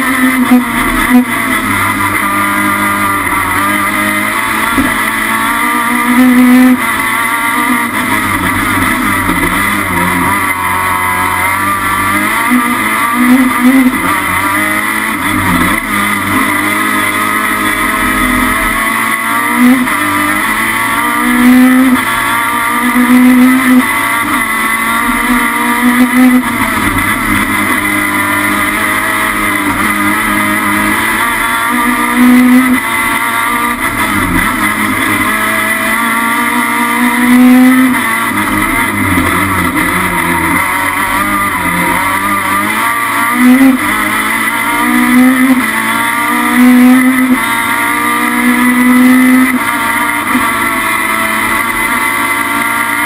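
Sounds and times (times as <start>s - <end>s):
racing car engine revving: 0.0s - 53.0s.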